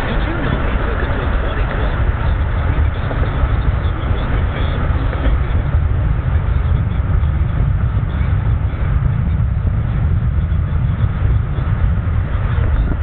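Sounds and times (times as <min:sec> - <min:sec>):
car engine low rumble: 0:00.0 - 0:13.0
tyre and wind noise: 0:00.0 - 0:13.0.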